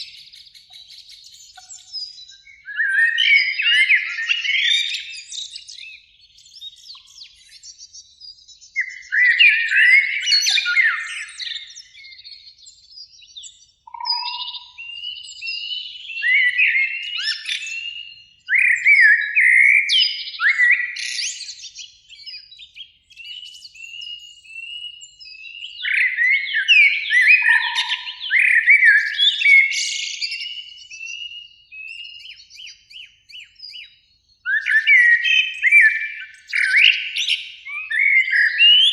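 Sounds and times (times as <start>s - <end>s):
blackbirds singing: 0.0s - 38.9s.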